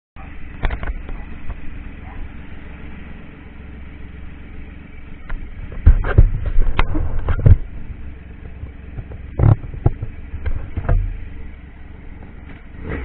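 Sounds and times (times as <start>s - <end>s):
motorcycle engine rumbling: 0.2s - 13.0s.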